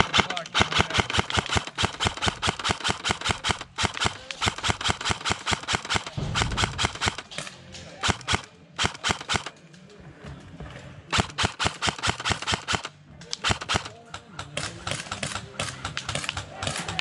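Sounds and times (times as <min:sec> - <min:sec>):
airsoft rifle firing bursts: 0:00.0 - 0:09.6, 0:11.1 - 0:17.0.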